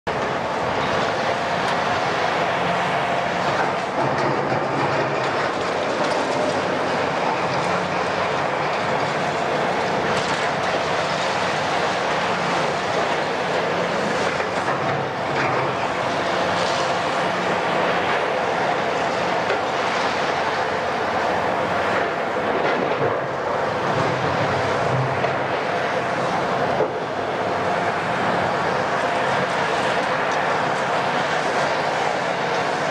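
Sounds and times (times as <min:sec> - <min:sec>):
excavator diesel engine droning: 0:00.1 - 0:32.9.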